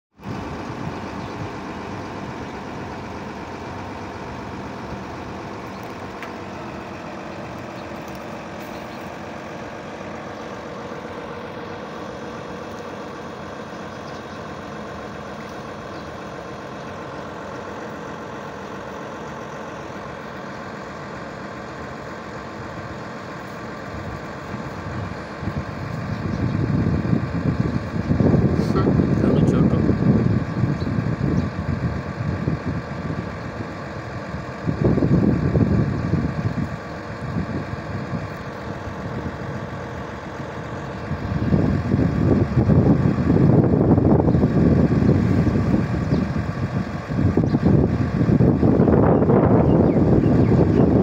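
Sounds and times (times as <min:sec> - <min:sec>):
engine humming: 0:00.1 - 0:51.0.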